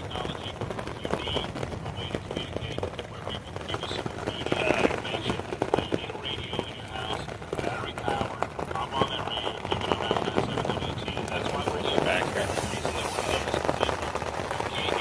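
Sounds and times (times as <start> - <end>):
rain pattering on a tent: 0.0 - 15.0.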